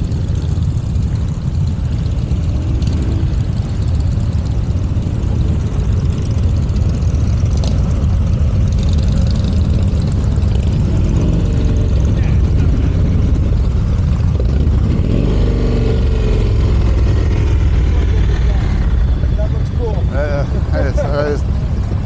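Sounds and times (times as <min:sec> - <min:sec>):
motorcycle engines rumbling: 0:00.0 - 0:22.0.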